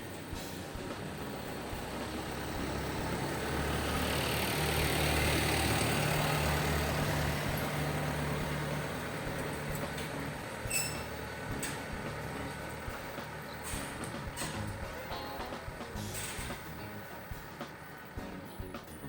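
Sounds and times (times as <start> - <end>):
vehicle engine passing: 0.0 - 19.0.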